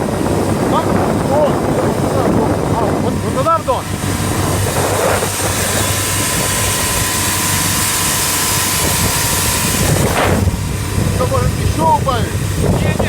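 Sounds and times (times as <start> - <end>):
boat diesel engine droning: 0.0 - 13.0
wind and water rushing: 0.0 - 13.0.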